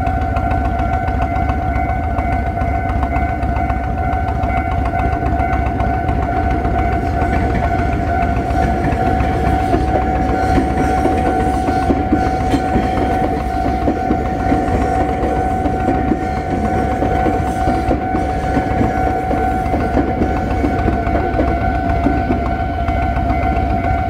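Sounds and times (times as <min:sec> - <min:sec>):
level crossing warning bell ringing: 0:00.0 - 0:24.0
train wheels clattering on rails: 0:00.0 - 0:24.0.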